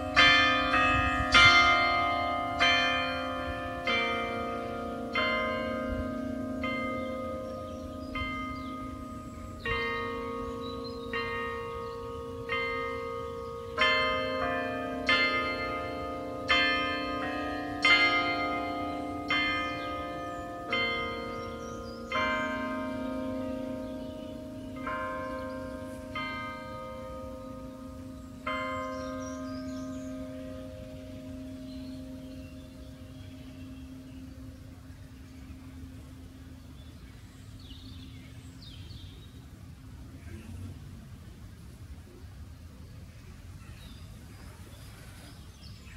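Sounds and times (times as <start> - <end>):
carillon bells playing a melody: 0.0 - 37.9.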